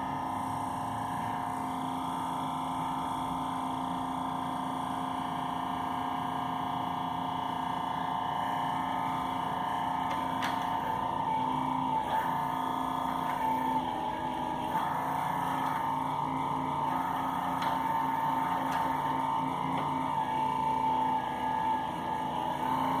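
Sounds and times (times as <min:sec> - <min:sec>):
power supply whining: 0:00.0 - 0:23.0.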